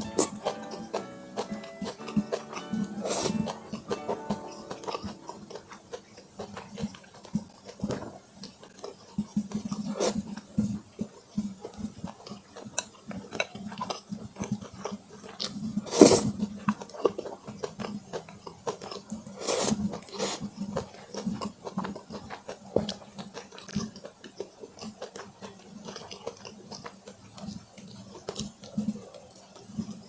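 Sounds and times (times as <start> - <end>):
close chewing mouth sounds: 0.0 - 30.0.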